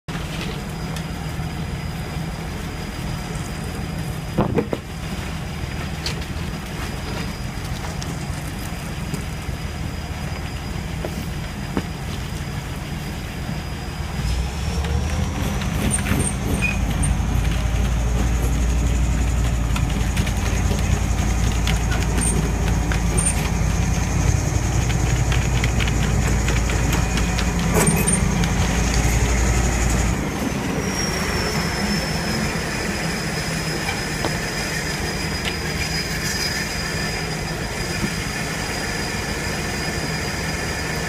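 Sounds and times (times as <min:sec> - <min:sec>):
high engine whine: 0:00.1 - 0:41.0
tank diesel engine rumbling: 0:00.1 - 0:41.0.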